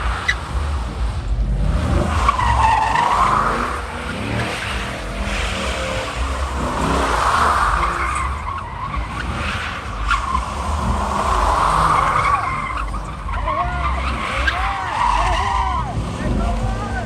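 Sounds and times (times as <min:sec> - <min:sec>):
car tyres skidding and squealing: 0:00.0 - 0:17.0
engine rumbling: 0:00.0 - 0:17.0.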